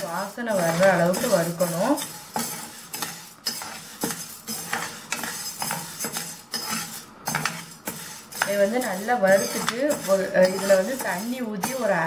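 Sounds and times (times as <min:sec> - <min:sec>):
ladle scraping frying pan: 0:00.0 - 0:12.0
lentils rattling in pan: 0:00.0 - 0:12.0.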